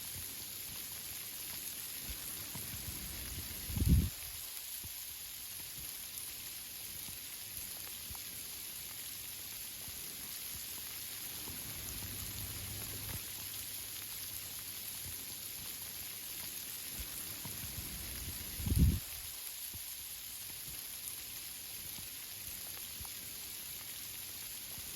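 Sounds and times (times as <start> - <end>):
rain falling on leaves: 0.0 - 24.9.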